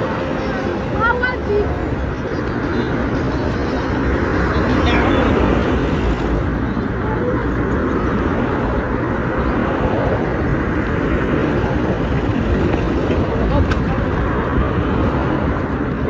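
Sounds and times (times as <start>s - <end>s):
vehicle and road noise: 0.0s - 16.0s.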